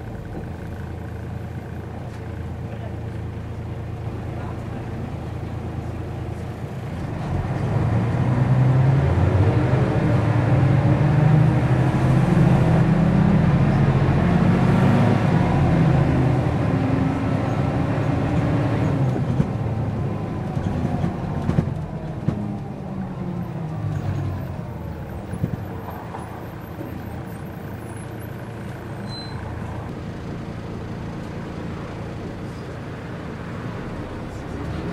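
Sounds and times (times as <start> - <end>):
bus diesel engine accelerating: 0.0 - 34.9.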